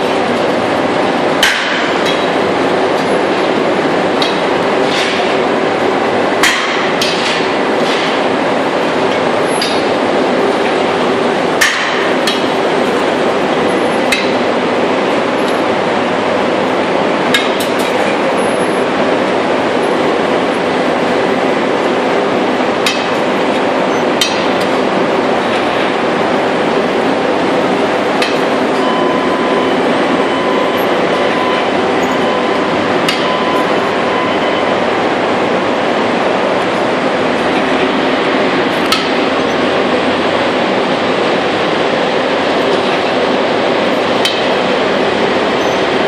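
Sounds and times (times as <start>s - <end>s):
foundry machinery noise: 0.0s - 46.0s.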